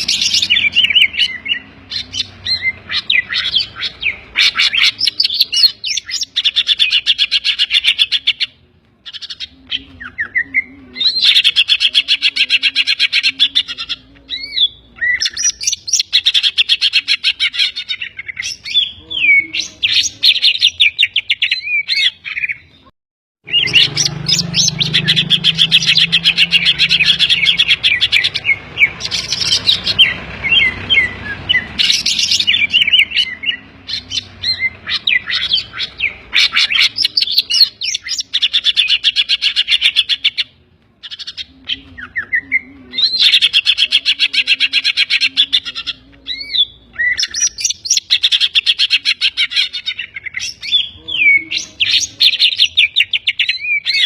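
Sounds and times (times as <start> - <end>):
bird singing rapid chattering: 0.0 - 54.0
mimicked bird calls: 0.0 - 54.0.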